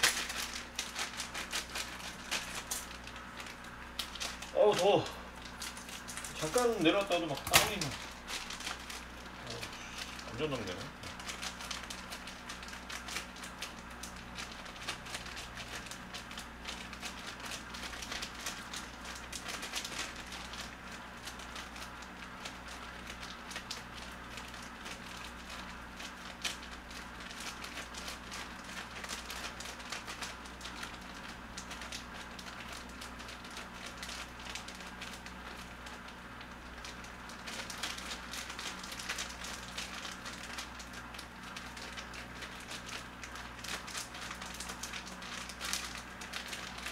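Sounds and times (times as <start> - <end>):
plastic packaging crinkling: 0.0 - 46.9.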